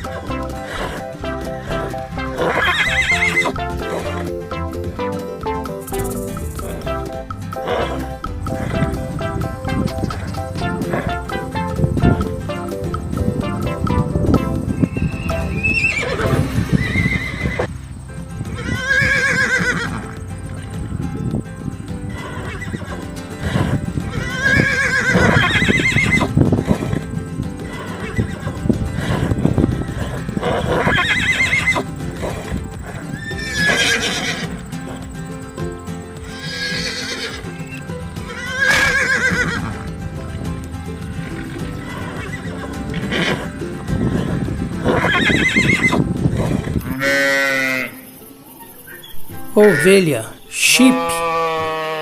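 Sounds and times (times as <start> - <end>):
horse neighing: 0.0 - 4.4, 5.8 - 13.0, 13.8 - 17.7, 18.5 - 20.6, 22.1 - 35.1, 36.3 - 39.9, 41.3 - 52.0
background music: 0.0 - 52.0.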